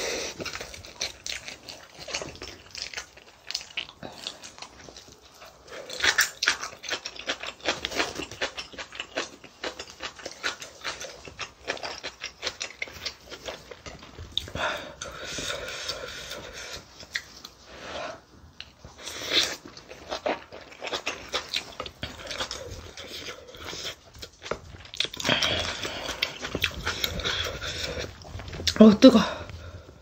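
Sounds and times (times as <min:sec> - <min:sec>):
person chewing: 0:00.0 - 0:30.0.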